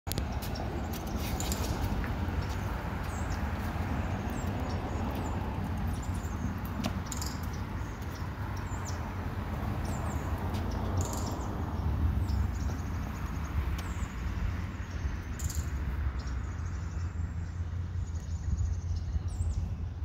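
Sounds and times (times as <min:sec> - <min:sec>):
small birds chirping: 0:00.1 - 0:20.0.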